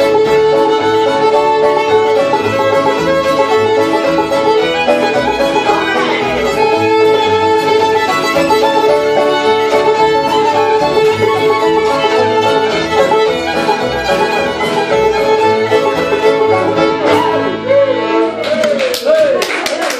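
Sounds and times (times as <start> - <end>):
plucked upright bass: 0.0 - 17.9
fiddle tune: 0.0 - 18.7.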